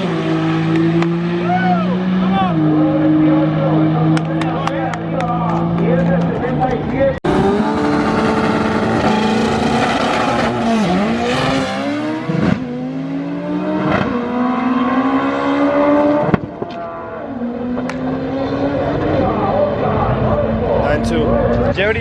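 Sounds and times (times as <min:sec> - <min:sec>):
racing car accelerating: 0:00.0 - 0:22.0.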